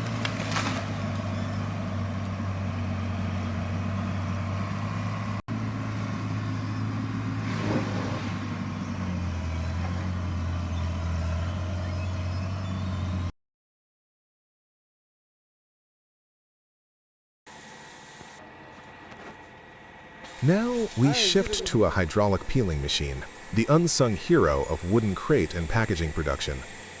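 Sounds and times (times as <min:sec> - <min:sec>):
loader engine running under load: 0:00.0 - 0:13.3, 0:17.5 - 0:27.0.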